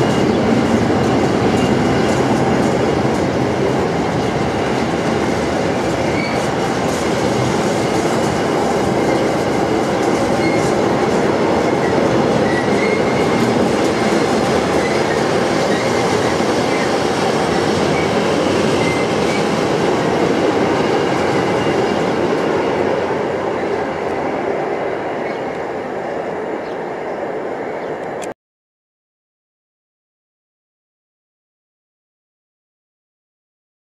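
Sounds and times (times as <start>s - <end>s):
freight train wheels rumbling: 0.0s - 28.3s.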